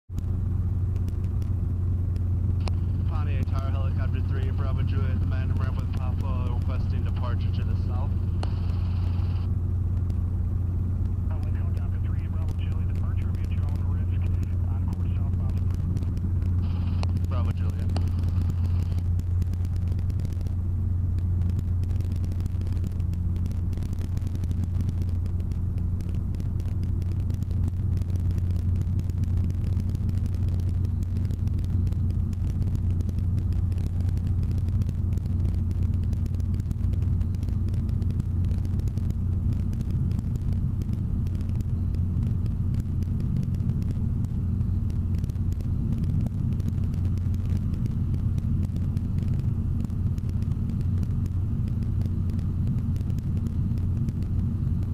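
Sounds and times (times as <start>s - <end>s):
helicopter engine and rotors droning: 0.2s - 54.9s.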